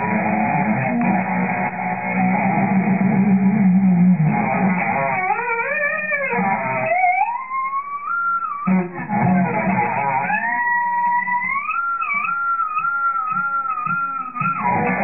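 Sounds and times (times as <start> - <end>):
electric guitar bending notes: 0.0 - 15.0.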